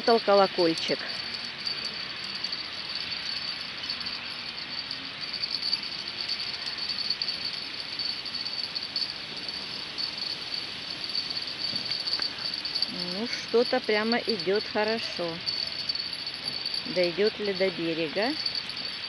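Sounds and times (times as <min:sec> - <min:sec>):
fishing reel rattling: 0:00.0 - 0:19.0.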